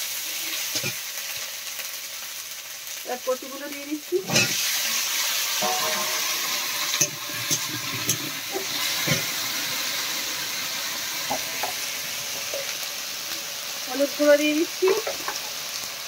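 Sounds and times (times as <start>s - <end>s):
hot oil sizzling in a pan: 0.0s - 16.0s.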